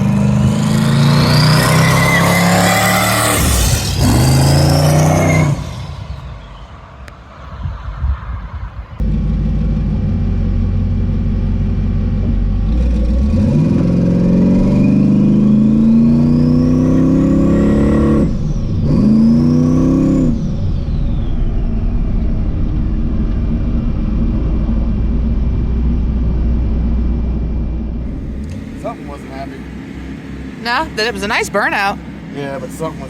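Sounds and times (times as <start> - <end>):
car engine revving with turbo whistle: 0.0 - 33.0.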